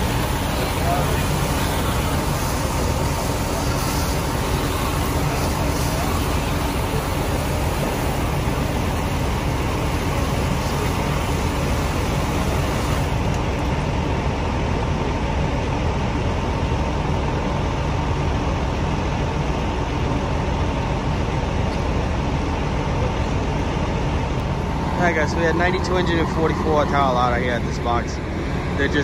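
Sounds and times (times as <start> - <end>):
faint steady whine: 0.0 - 29.0
fire engine motor rumbling: 0.0 - 29.0.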